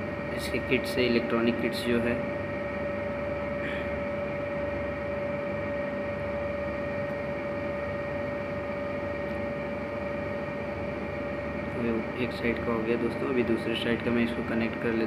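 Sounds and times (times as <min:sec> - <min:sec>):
mid-pitched whine: 0:00.0 - 0:15.0
steady background hum: 0:00.0 - 0:15.0.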